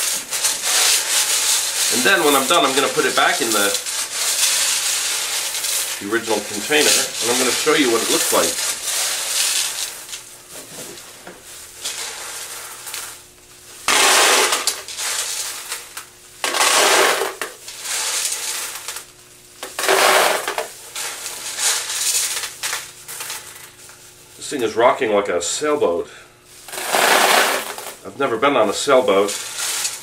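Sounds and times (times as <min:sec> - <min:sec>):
candies rattling in metal pot: 0:00.0 - 0:10.3, 0:11.7 - 0:23.8, 0:26.7 - 0:28.1, 0:28.8 - 0:30.0
plastic gloves crinkling: 0:00.0 - 0:24.5, 0:26.4 - 0:30.0.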